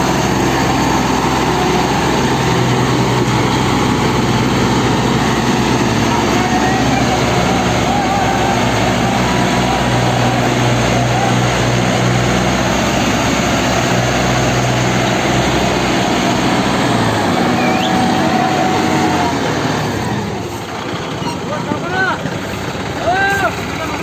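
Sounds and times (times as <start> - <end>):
tractor diesel engines running: 0.0 - 24.0.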